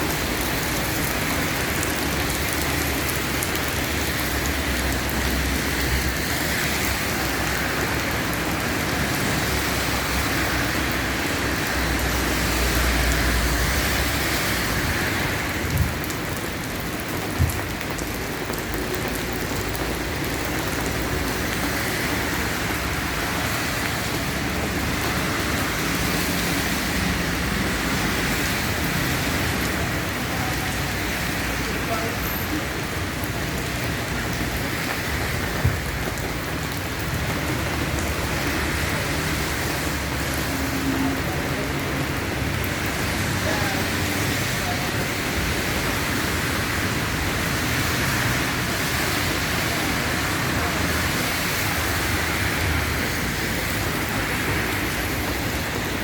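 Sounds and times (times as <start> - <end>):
rain on hard surfaces: 0.0 - 56.0.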